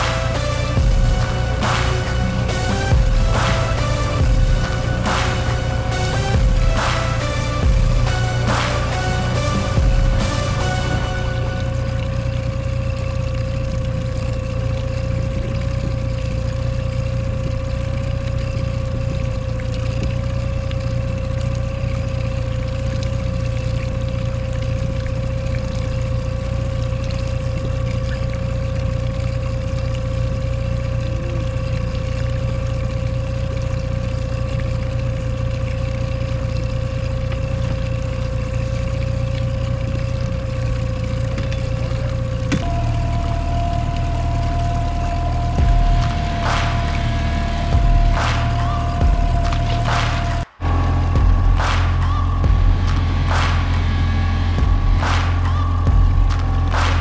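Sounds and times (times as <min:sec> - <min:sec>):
boat motor running: 0:00.0 - 0:57.0.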